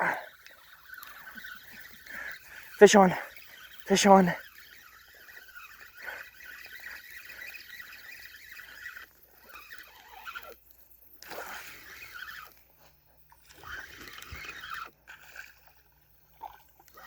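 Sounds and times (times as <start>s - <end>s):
fishing reel whirring: 0.0s - 17.0s.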